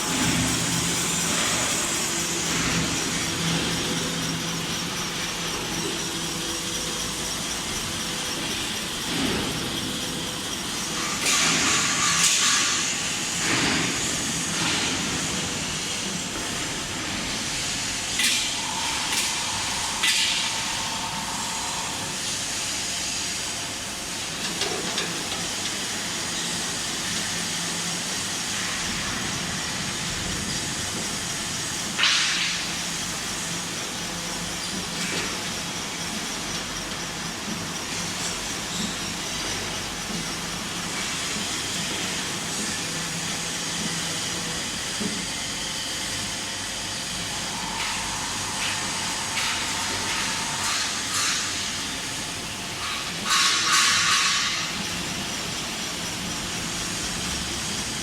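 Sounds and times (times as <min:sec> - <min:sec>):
machine mechanical hum: 0:00.0 - 0:58.0
machine whine: 0:00.0 - 0:58.0.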